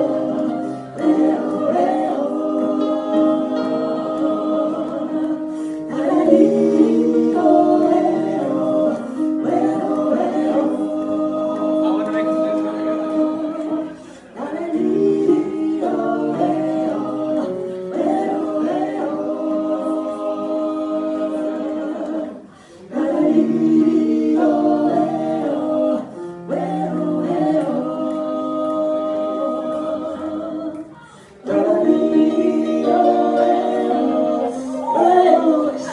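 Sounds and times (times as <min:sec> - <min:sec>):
group singing in harmony: 0:00.0 - 0:35.9.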